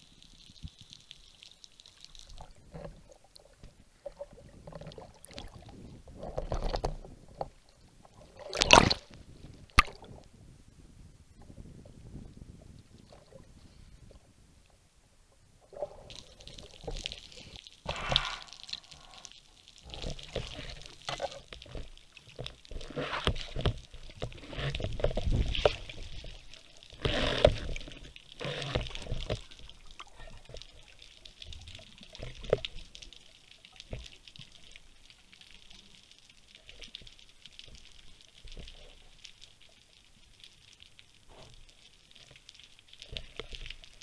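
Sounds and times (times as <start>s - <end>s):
underwater gurgling and rushing: 0.0s - 44.0s.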